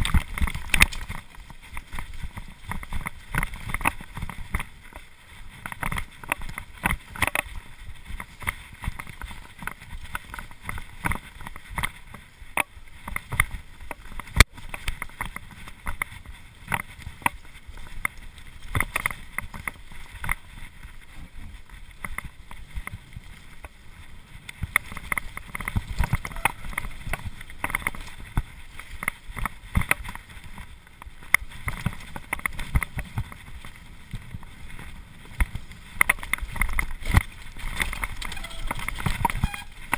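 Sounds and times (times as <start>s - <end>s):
bike rattling and knocking: 0.0s - 39.9s.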